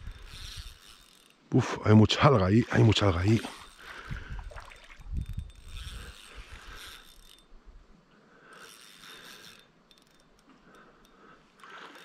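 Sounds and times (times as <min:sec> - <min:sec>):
fly reel ratchet clicking: 0:00.0 - 0:12.0.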